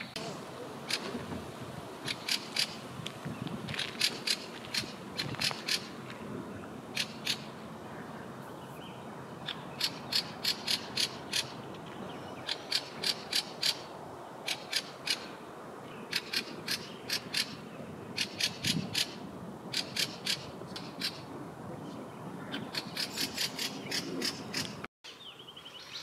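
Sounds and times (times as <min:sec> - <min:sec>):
thrush chattering calls: 0:00.0 - 0:01.2, 0:02.0 - 0:02.9, 0:03.6 - 0:06.3, 0:06.9 - 0:21.4, 0:22.2 - 0:24.8.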